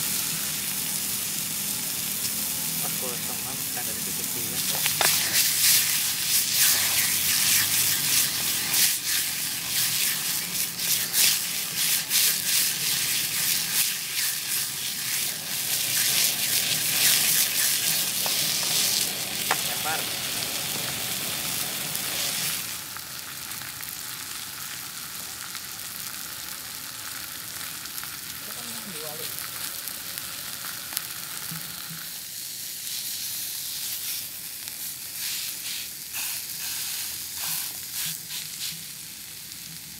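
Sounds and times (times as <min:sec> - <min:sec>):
steak sizzling in a pan: 0:00.0 - 0:39.9.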